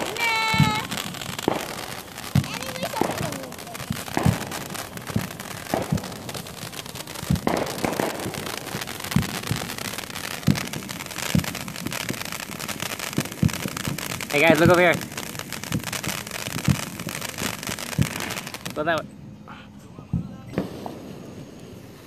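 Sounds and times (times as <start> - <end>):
firework spraying sparks hiss: 0.0 - 19.0, 20.5 - 22.0
crackling pops: 0.0 - 19.1.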